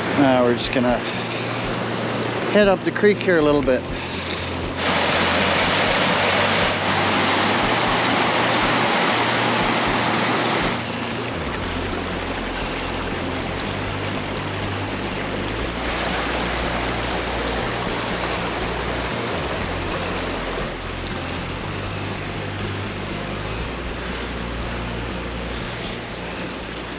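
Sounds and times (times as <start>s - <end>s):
creek water rushing over rocks: 0.0s - 26.9s.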